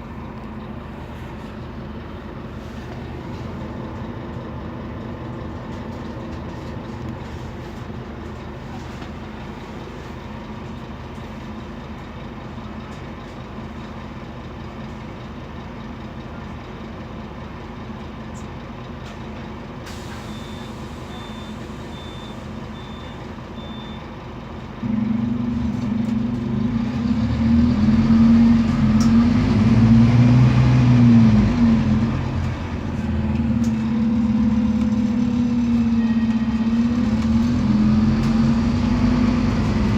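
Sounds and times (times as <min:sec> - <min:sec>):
diesel bus engine: 0:00.0 - 0:39.9.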